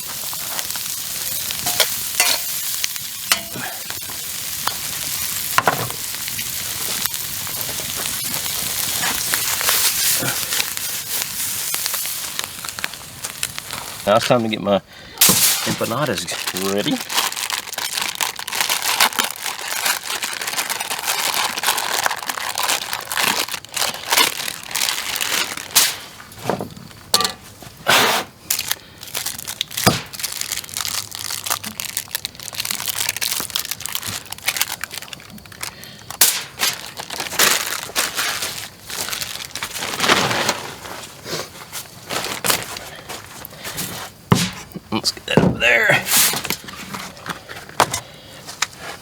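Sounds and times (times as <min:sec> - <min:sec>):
food wrappings crinkling: 0:00.0 - 0:27.8, 0:28.4 - 0:49.0.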